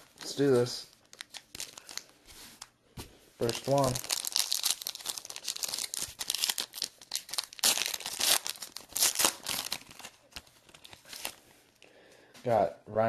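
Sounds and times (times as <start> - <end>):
card pack wrapper tearing and crinkling: 0.0 - 2.7, 3.4 - 11.4.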